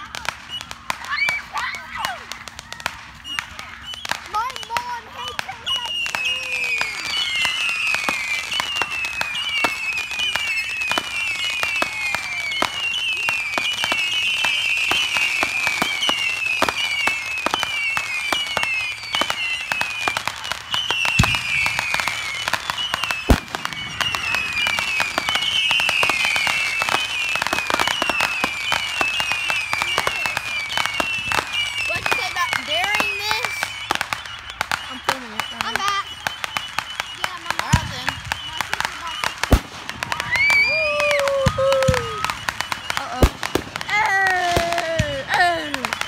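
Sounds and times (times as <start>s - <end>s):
firework bangs: 0.0s - 46.0s
firework whistles falling in pitch: 0.0s - 46.0s
fireworks popping and crackling: 0.0s - 46.0s.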